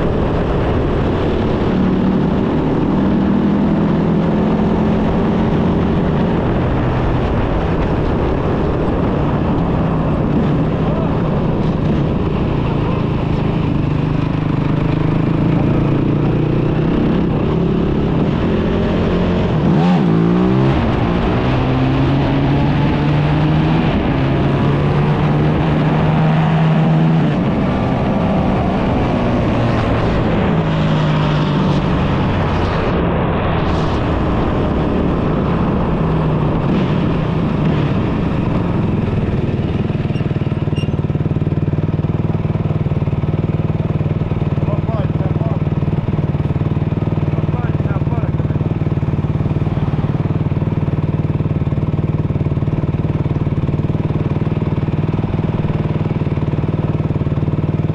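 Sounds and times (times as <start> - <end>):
quad bike engine running: 0.0 - 33.0, 34.0 - 57.9.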